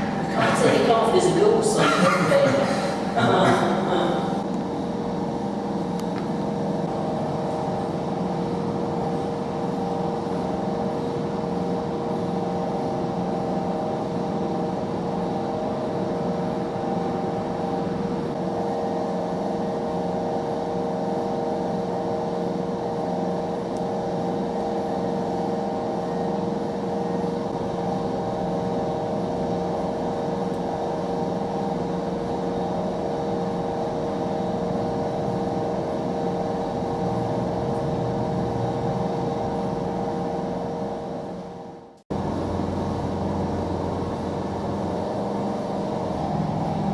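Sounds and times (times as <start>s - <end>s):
engine drone: 0.0s - 46.9s.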